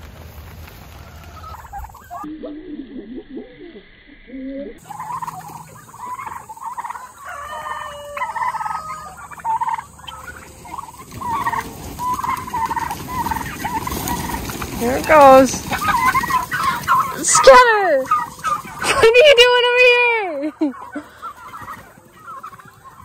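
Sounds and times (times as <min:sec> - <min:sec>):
turkeys calling: 0:00.1 - 0:23.0.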